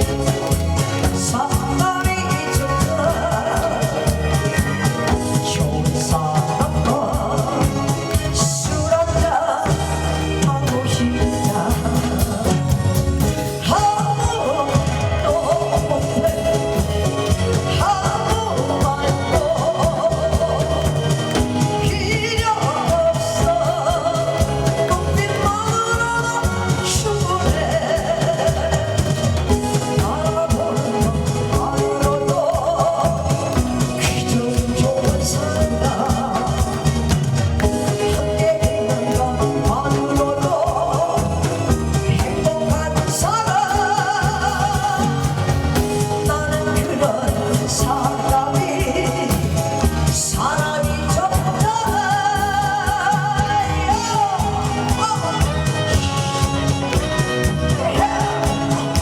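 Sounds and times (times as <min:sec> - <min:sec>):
backing track with steady beat: 0:00.0 - 0:59.0
woman singing: 0:00.0 - 0:59.0.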